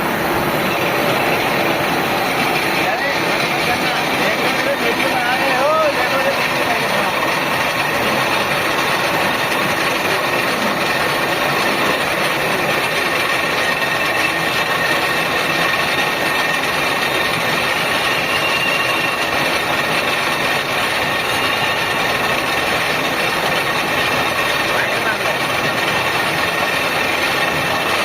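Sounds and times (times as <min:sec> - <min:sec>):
machine running with high whine: 0:00.0 - 0:28.0.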